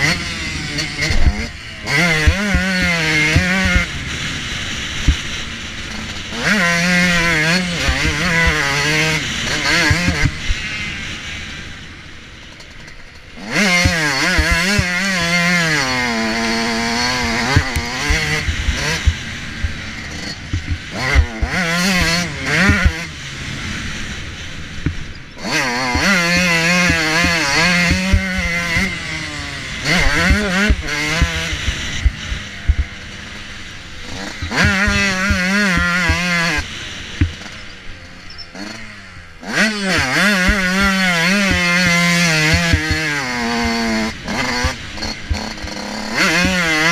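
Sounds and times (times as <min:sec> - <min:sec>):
motocross bike engine revving: 0:00.0 - 0:46.9.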